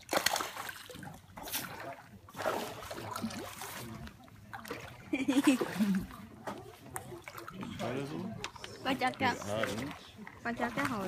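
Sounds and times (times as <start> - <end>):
water splashing below a pier: 0.0 - 11.0.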